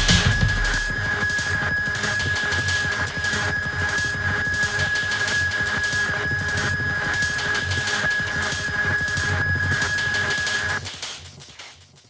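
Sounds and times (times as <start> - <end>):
electronic dance music: 0.0 - 10.8
high synth tone: 0.0 - 10.8.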